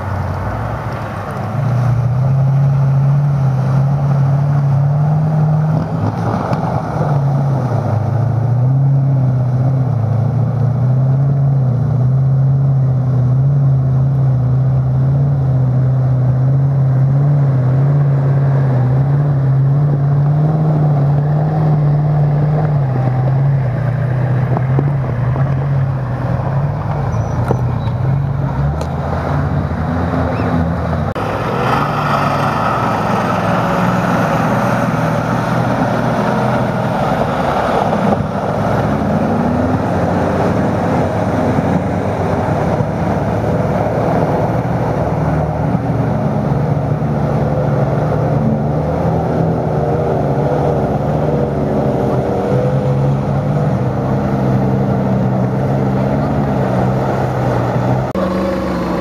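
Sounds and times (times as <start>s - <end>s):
racing engine revving high: 0.0s - 59.0s.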